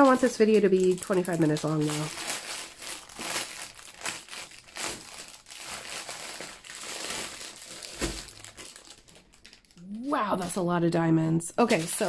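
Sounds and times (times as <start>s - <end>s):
plastic wrapping crinkling: 0.0s - 10.6s, 11.6s - 12.0s.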